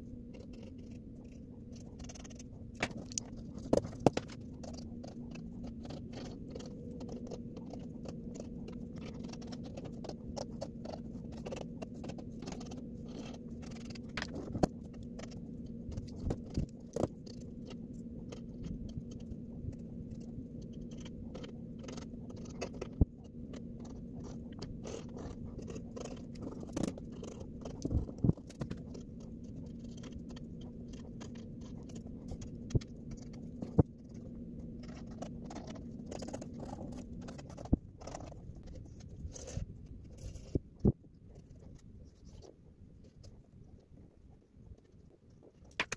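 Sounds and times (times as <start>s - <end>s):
pencil scratching on paper: 0.0s - 40.6s
low hum: 0.0s - 44.8s.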